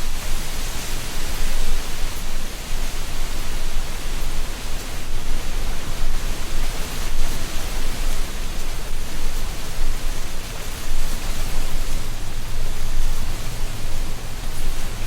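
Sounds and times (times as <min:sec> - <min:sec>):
wind rustling dry leaves: 0:00.0 - 0:15.0.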